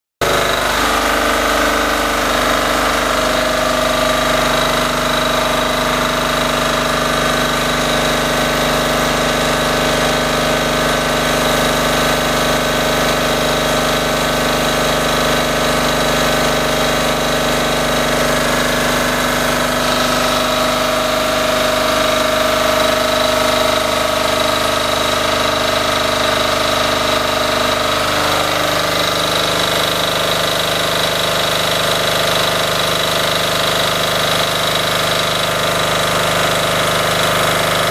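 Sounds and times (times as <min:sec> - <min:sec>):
diesel generator engine running: 0:00.2 - 0:37.9.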